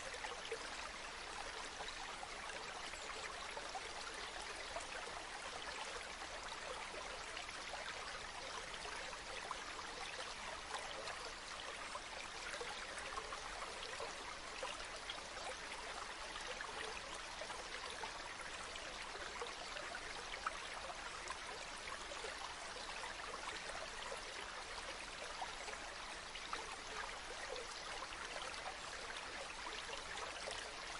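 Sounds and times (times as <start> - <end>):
stream running over stones: 0.0 - 30.9.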